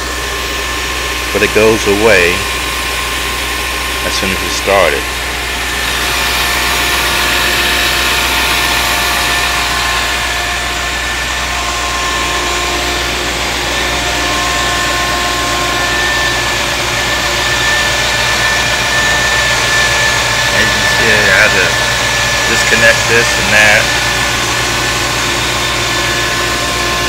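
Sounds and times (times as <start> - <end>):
car engine idling: 0.0 - 27.0
constant whine: 0.0 - 27.0.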